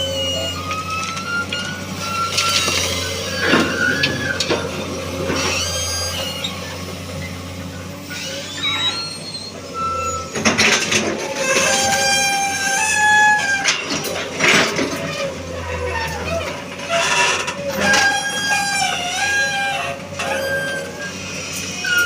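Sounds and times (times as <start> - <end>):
diesel engine running: 0.0 - 22.0
hydraulic whines and squeals: 0.0 - 22.0.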